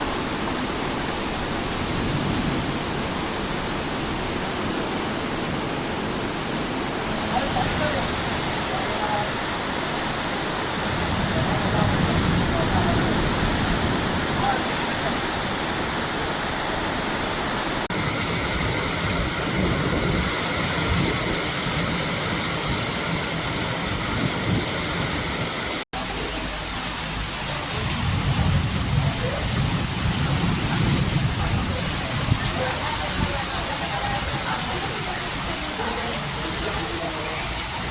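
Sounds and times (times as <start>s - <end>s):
gale-force wind: 0.0s - 37.9s
heavy rain falling: 0.0s - 37.9s.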